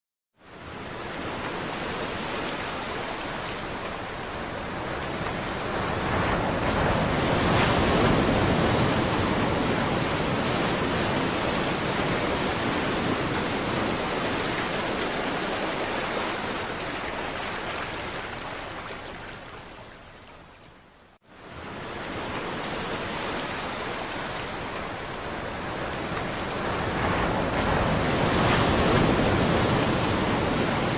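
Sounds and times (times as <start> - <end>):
ocean waves breaking: 0.4 - 20.6, 21.3 - 30.9.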